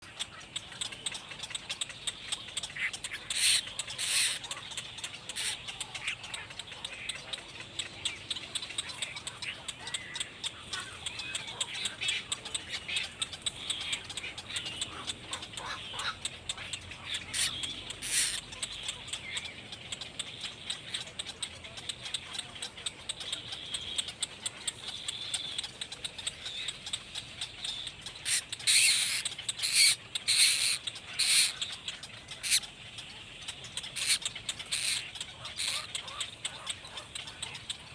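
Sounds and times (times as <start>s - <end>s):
nestling birds chirping: 0.0s - 37.9s.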